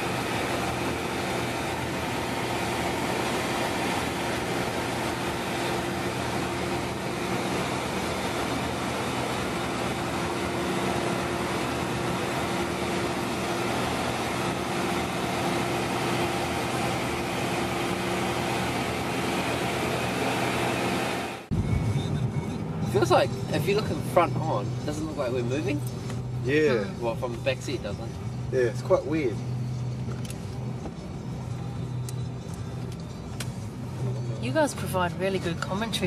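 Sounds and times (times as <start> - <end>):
ship engines droning: 0.0 - 36.0.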